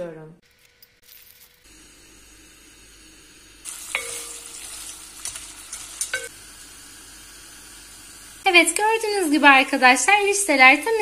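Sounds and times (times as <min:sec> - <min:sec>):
noodles sizzling in oil: 0:01.6 - 0:11.0.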